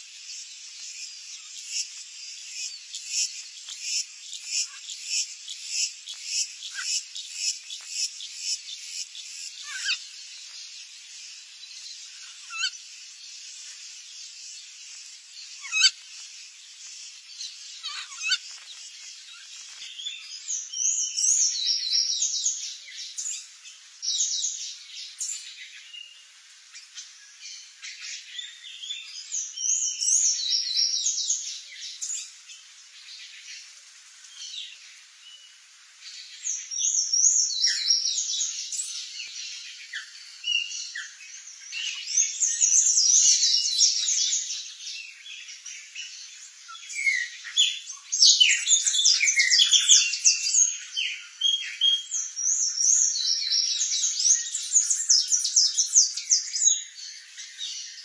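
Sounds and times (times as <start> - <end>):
small birds chirping and trilling: 0.0 - 58.0.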